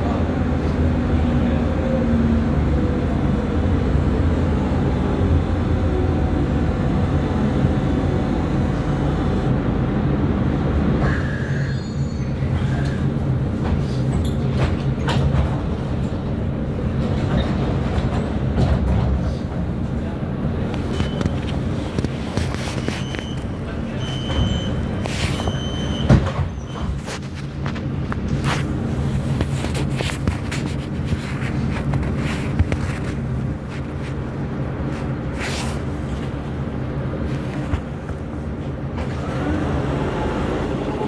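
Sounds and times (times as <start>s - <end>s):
light-rail car rumbling: 0.0s - 41.0s.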